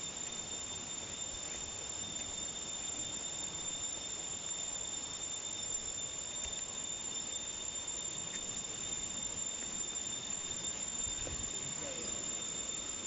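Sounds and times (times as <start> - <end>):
constant hiss: 0.0 - 13.0
insects droning: 0.0 - 13.0.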